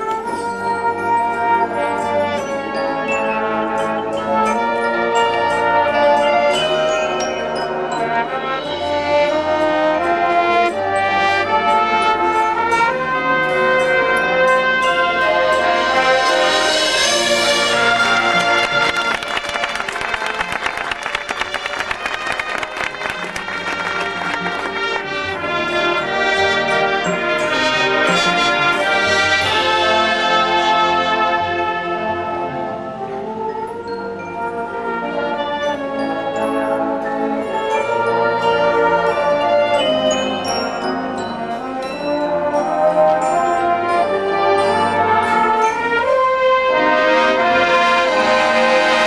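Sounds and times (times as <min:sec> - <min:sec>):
marching band brass chords: 0:00.0 - 0:49.0.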